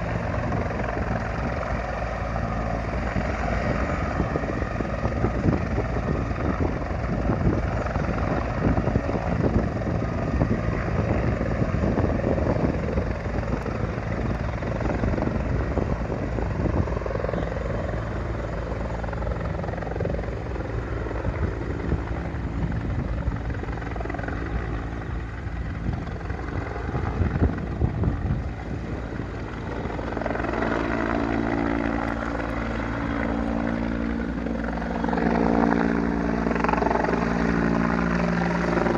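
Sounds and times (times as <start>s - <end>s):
helicopter rotor beating: 0.0s - 38.9s
turbine engine: 0.0s - 38.9s.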